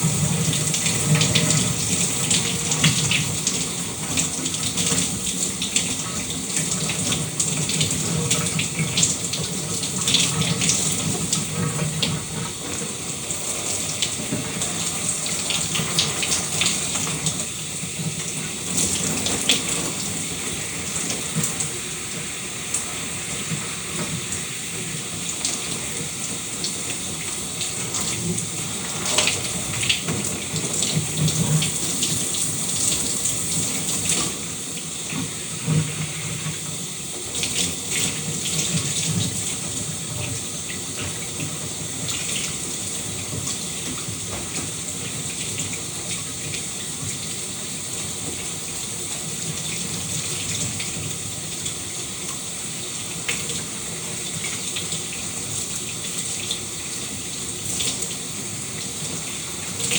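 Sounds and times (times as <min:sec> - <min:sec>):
shower spray hissing: 0:00.0 - 0:59.9
water splashing on a surface: 0:00.0 - 0:59.9.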